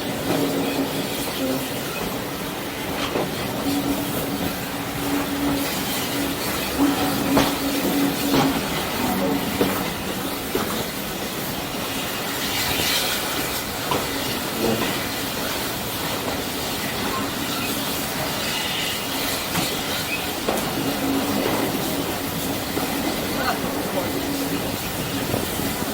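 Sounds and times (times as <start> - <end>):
steam train rumble and hiss: 0.0 - 25.9
wheels clicking over rail joints: 0.0 - 25.9.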